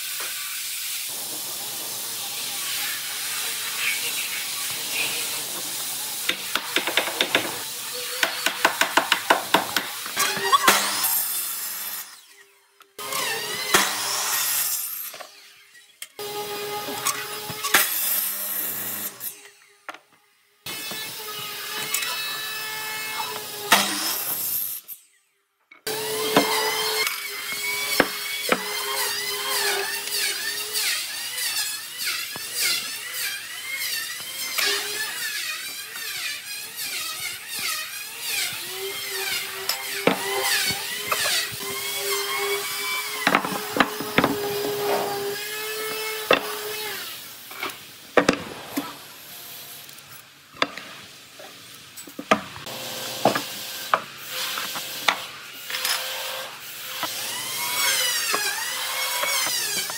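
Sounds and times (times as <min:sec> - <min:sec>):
power tool whining on wood: 0:00.2 - 0:20.1, 0:25.8 - 0:50.0, 0:52.2 - 0:59.9.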